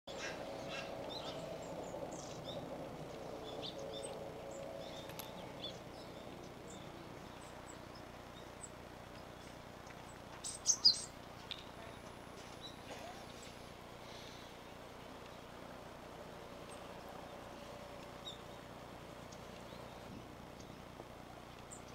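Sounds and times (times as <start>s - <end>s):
thin high bird calls: 0.1s - 15.6s, 16.3s - 21.0s.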